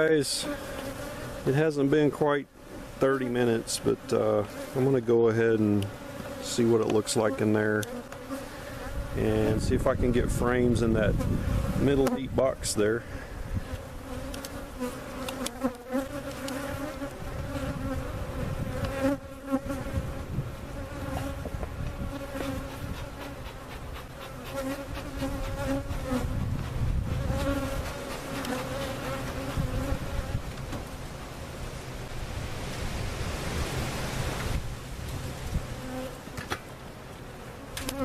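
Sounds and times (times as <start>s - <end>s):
bees buzzing: 0.0s - 32.5s, 33.2s - 38.0s.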